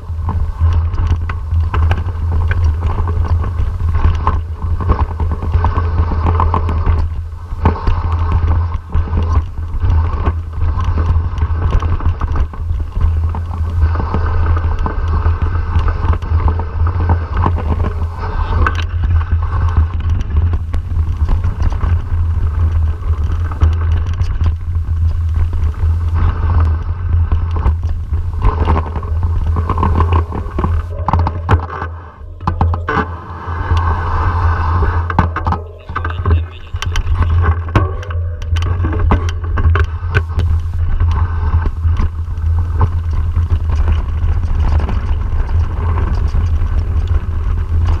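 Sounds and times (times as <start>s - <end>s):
bike rattling and clicking: 0.0s - 33.9s, 34.9s - 48.0s
wind rumble on microphone: 0.0s - 48.0s.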